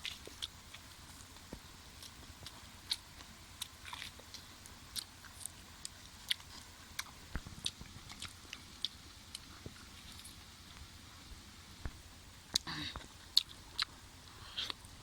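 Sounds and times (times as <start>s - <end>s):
person chewing crunchy food: 0.0s - 10.9s, 11.8s - 15.0s.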